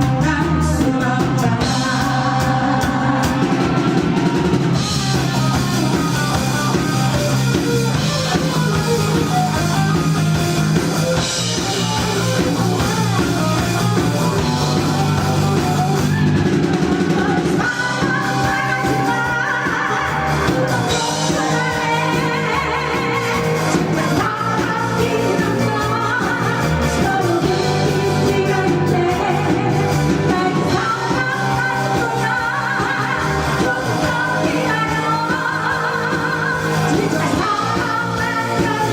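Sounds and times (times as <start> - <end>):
person singing: 0.0 - 6.9, 11.5 - 38.9
rock band playing: 0.0 - 38.9.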